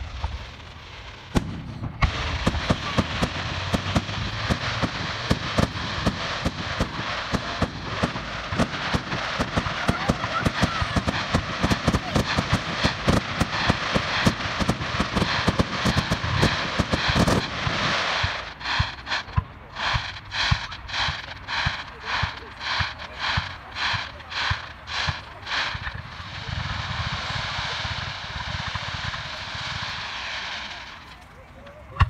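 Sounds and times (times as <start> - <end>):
fireworks bangs: 0.0 - 32.0
fireworks crackling: 0.0 - 32.0.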